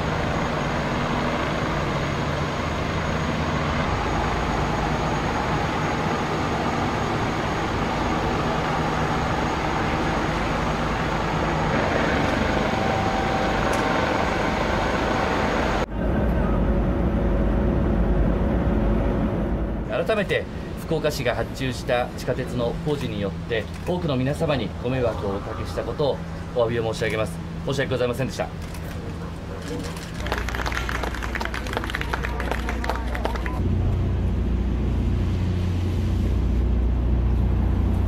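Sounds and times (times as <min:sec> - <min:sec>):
engine humming: 0:00.0 - 0:38.0
road-paving machinery rumble: 0:00.0 - 0:38.0.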